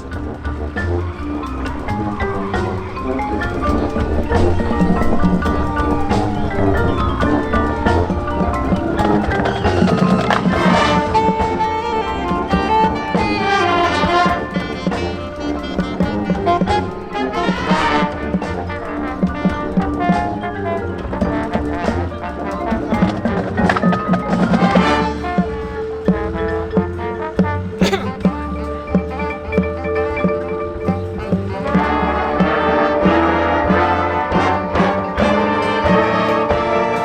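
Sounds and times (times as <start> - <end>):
fast mallet runs: 0.0 - 37.0
marching band brass: 0.0 - 37.0.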